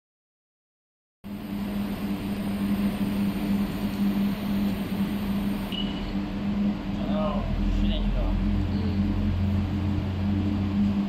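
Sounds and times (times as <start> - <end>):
electrical hum: 1.3 - 11.0.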